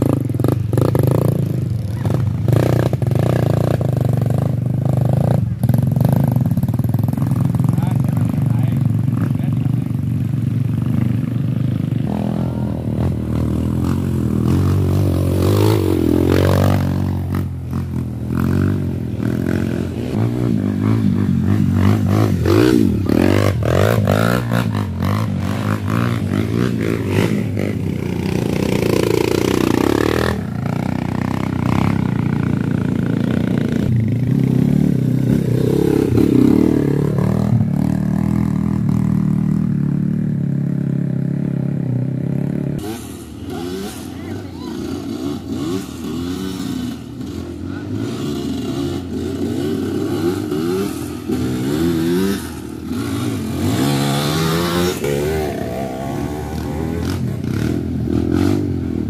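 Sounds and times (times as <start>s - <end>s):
motorcycle engines revving past: 0.0s - 59.0s.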